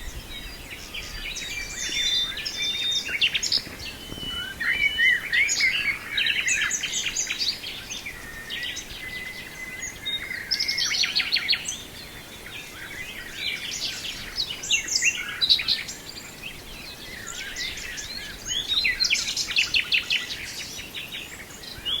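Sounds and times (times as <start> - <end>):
nightingale singing: 0.0 - 22.0.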